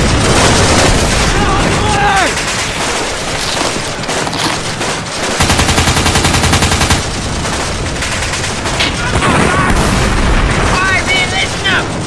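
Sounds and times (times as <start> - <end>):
automatic machine-gun fire: 0.0 - 12.0
gunshots: 0.0 - 12.0.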